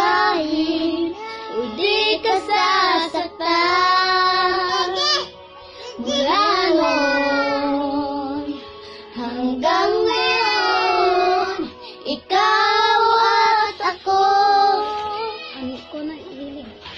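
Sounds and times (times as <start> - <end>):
girls singing unaccompanied: 0.0 - 5.3, 6.0 - 8.6, 9.2 - 16.6.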